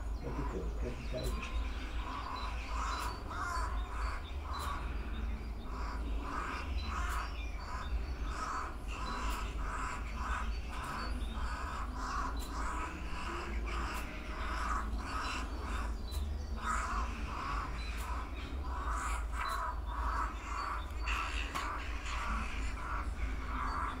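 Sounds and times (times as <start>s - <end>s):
jackdaw cawing: 0.3s - 24.0s.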